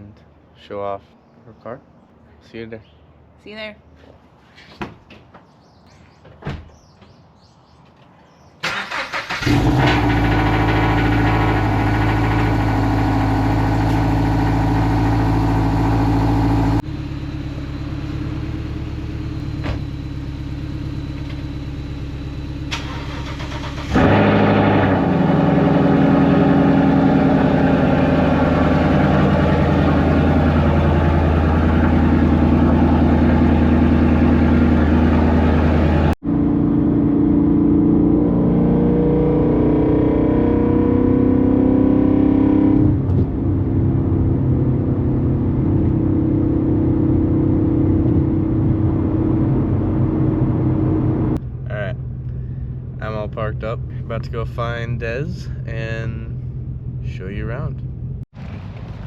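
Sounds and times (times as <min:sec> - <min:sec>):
car engine starting and running: 0:08.6 - 0:59.0.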